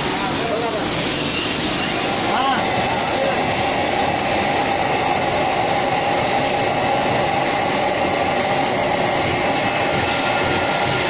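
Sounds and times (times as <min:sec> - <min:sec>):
vacuum suction machine rushing: 0:00.0 - 0:11.0.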